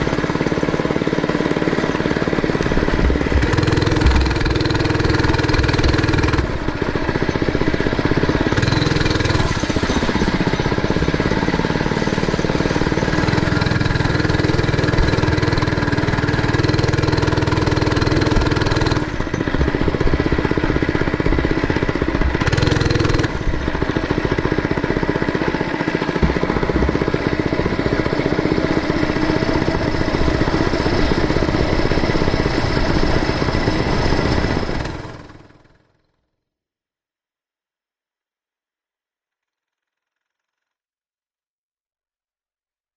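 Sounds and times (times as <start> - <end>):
small motorbike engine revving: 0.0 - 35.8.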